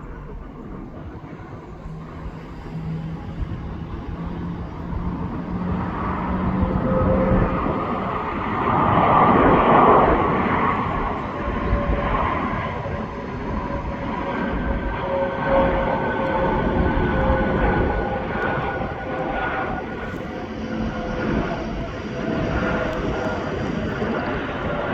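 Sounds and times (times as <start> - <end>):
jet engines passing by: 0.0 - 24.9
steady whining tones: 0.0 - 24.9.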